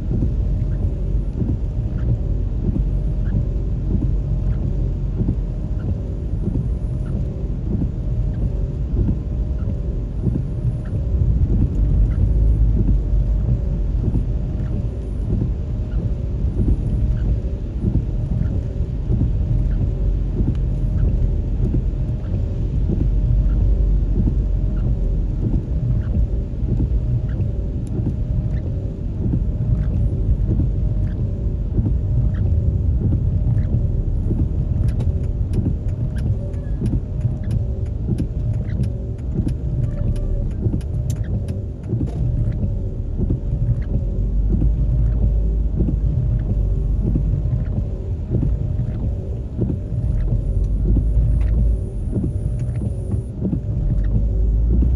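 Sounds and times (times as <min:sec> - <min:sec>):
vehicle road and engine rumble: 0:00.0 - 0:54.9
light ticks: 0:00.1 - 0:54.9.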